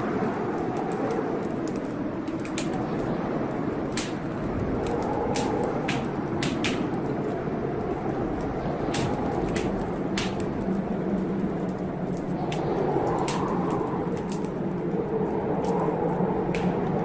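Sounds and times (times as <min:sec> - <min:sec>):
rain: 0:00.0 - 0:17.0
storm wind: 0:00.0 - 0:17.0
wood fire crackling: 0:00.0 - 0:17.0.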